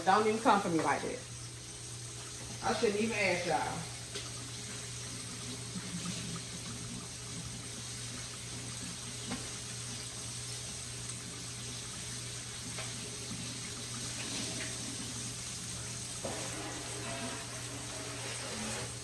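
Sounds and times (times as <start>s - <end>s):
fish sizzling in oil: 0.0s - 19.0s.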